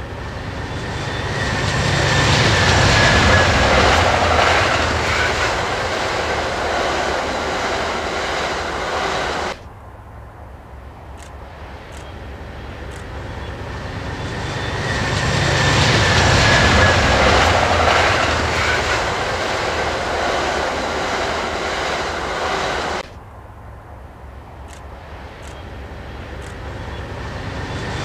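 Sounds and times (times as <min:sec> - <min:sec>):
passenger train passing at speed: 0:00.0 - 0:28.0.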